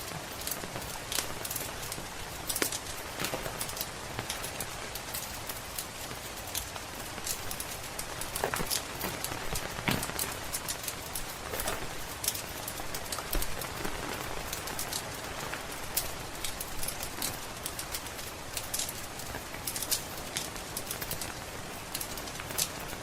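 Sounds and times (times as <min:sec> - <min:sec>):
rain patter: 0:00.0 - 0:23.0
wood fire crackling: 0:00.0 - 0:23.0.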